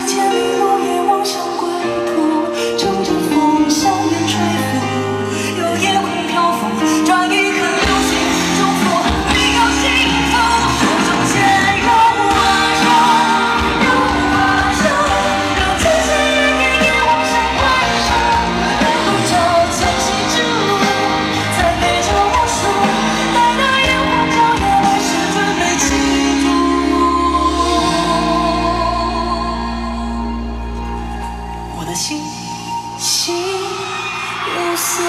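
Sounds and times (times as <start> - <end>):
live pop song with singer and band: 0.0 - 35.0.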